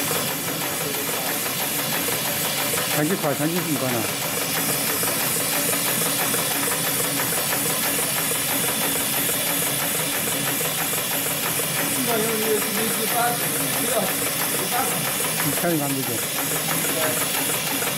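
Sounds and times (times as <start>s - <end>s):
sewing machine running: 0.0s - 17.9s.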